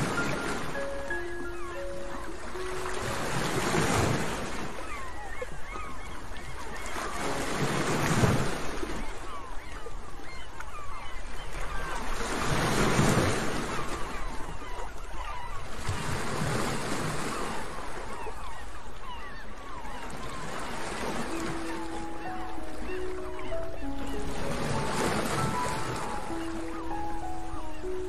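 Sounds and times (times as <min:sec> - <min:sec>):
sea waves washing onto shore: 0:00.0 - 0:19.2, 0:20.0 - 0:28.0.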